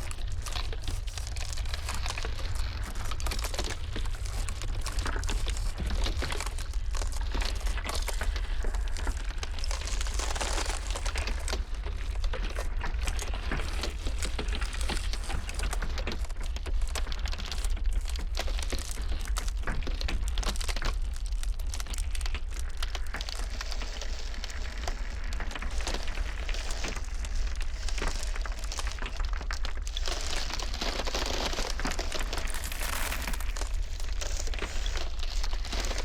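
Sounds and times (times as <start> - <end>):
ice cracking and snapping: 0.0 - 36.0.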